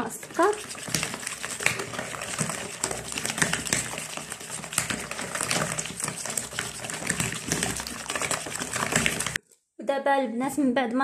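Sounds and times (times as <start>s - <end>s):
whisk beating in plastic bowl: 0.0s - 9.4s.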